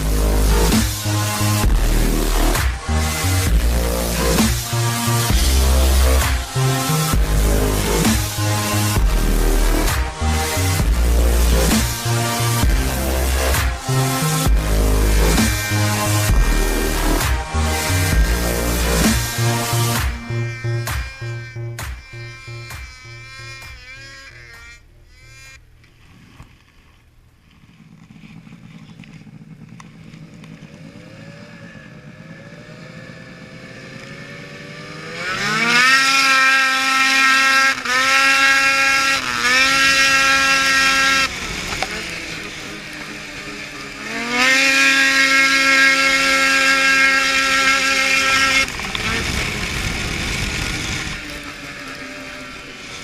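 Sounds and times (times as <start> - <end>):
snowmobile engine revving: 0.0 - 25.8, 27.6 - 53.0.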